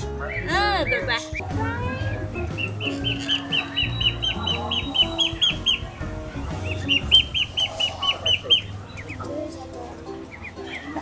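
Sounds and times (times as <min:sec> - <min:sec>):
duckling peeping: 0:00.3 - 0:09.4, 0:10.3 - 0:11.0.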